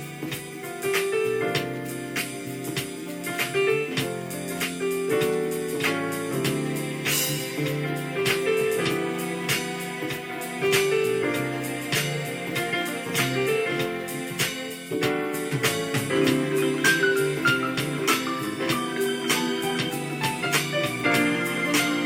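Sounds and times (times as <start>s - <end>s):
keyboard instrument music: 0.0s - 22.0s.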